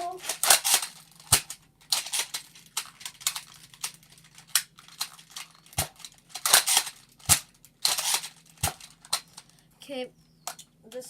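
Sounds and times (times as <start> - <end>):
plastic toy blaster clicking: 0.2 - 9.4.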